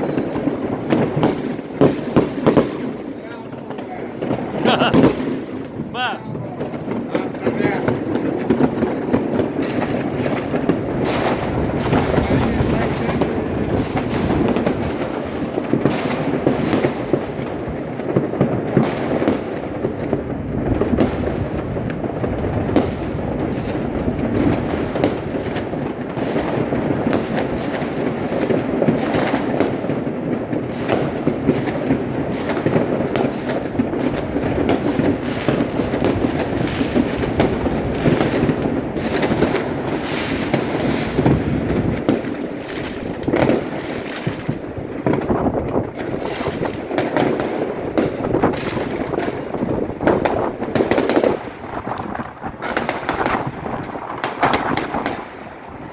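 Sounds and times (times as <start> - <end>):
fireworks and firecrackers banging: 0.0 - 55.9.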